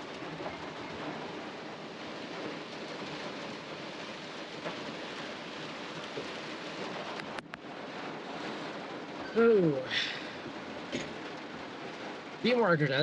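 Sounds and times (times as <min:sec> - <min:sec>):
hard rain on a truck: 0:00.0 - 0:13.0.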